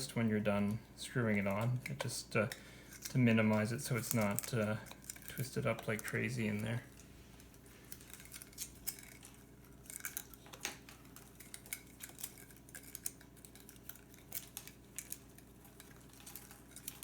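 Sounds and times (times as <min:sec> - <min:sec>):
plastic parts clicking and scraping: 0:01.3 - 0:17.0.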